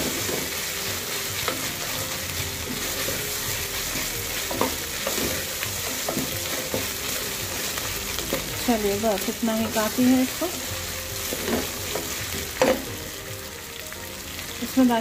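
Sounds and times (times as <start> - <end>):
wooden spoon knocking and scraping pot: 0.0 - 10.6, 11.2 - 13.0
onions sizzling in hot oil: 0.0 - 15.0.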